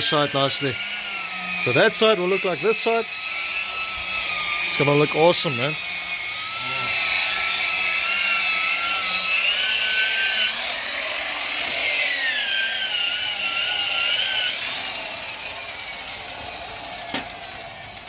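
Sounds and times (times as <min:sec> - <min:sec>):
polishing machine motor whine: 0:00.0 - 0:18.0.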